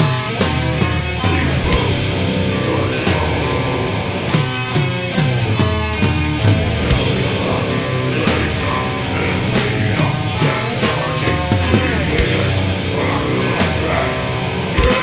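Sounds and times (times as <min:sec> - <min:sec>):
punk band playing fast riff: 0:00.0 - 0:15.0.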